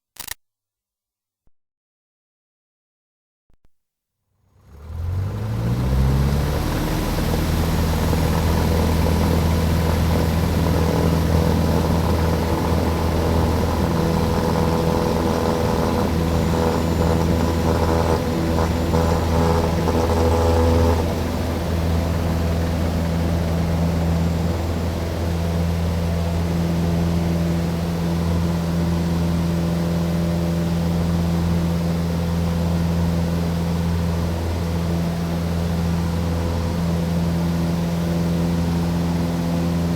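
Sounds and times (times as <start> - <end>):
aircraft engines droning: 5.2 - 39.9.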